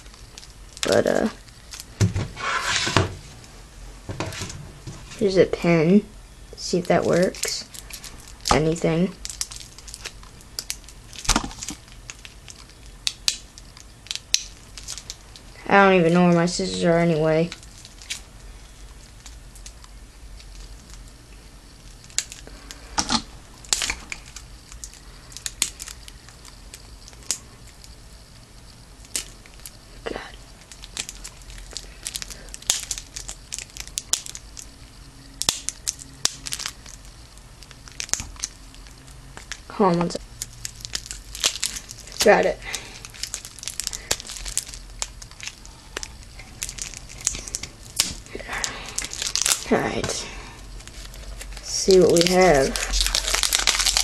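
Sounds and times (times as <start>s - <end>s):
plastic wrap crinkling and tearing: 0.0s - 2.9s, 6.8s - 21.2s, 21.8s - 27.9s, 29.0s - 29.8s, 30.6s - 54.0s.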